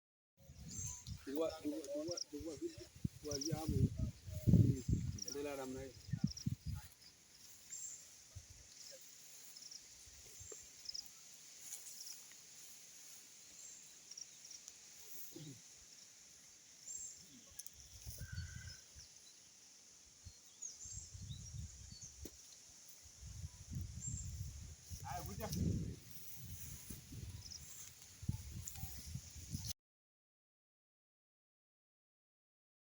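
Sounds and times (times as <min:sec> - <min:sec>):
small birds chirping: 0:00.4 - 0:29.7.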